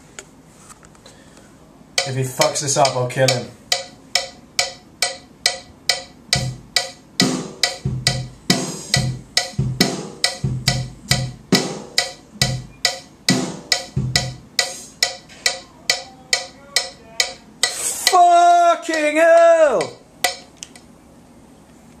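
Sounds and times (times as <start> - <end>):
kick drum beats: 2.0 - 17.4, 18.0 - 20.5
drum kit strokes: 2.0 - 20.5.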